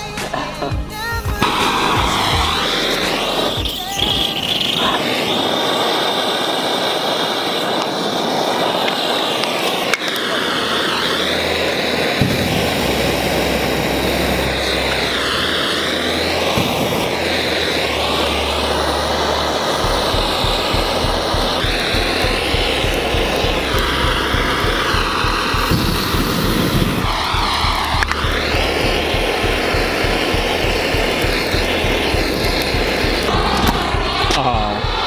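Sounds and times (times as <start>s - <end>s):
blowtorch hissing: 0.0s - 35.0s.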